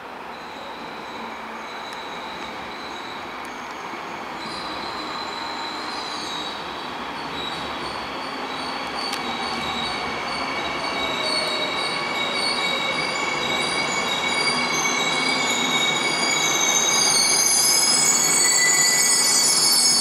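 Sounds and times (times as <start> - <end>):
high-pitched train tones: 0.3 - 20.0.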